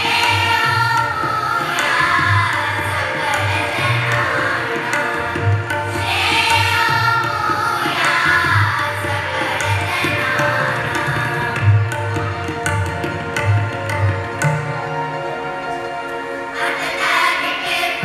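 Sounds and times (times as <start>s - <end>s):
tabla-style percussion rhythm: 0.0s - 16.2s.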